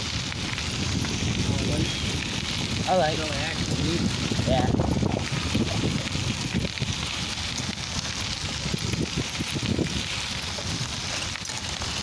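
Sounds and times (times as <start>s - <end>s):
tyres rolling over gravel: 0.0s - 12.0s
wind buffeting microphone: 0.0s - 12.0s.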